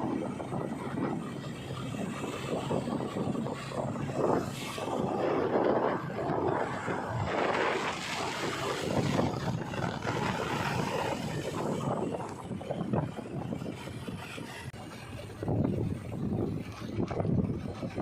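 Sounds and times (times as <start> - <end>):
heavy machinery diesel engine: 0.0 - 18.0
wind buffeting microphone: 0.0 - 18.0.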